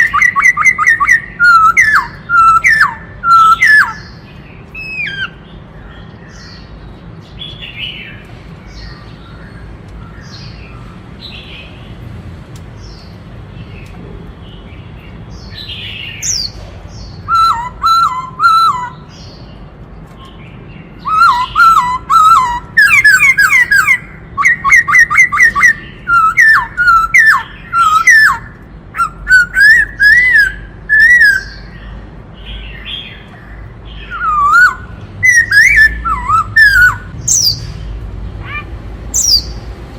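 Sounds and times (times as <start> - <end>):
bird singing: 0.0 - 12.0, 12.8 - 39.7.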